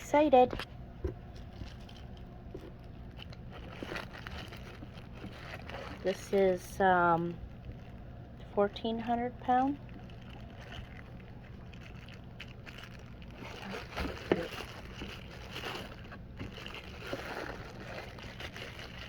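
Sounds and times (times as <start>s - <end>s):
rustling handling noises: 0.0s - 19.0s
steady low hum: 0.0s - 19.0s.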